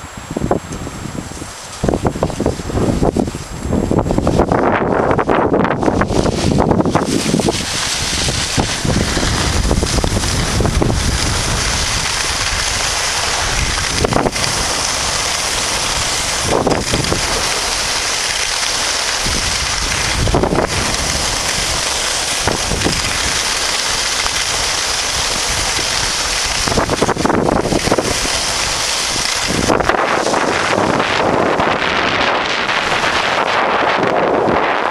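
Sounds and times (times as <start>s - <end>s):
wind buffeting microphone: 0.0s - 34.9s
skis scraping on turns: 1.3s - 34.9s
skis sliding on snow: 1.3s - 34.9s.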